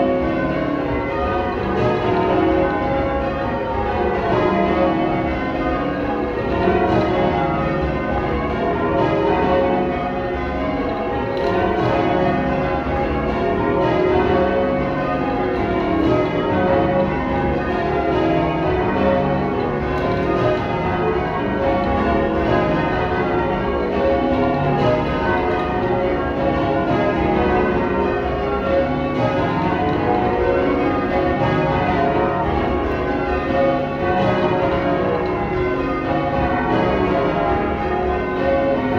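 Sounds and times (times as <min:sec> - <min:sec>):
church bells change ringing: 0:00.0 - 0:38.9.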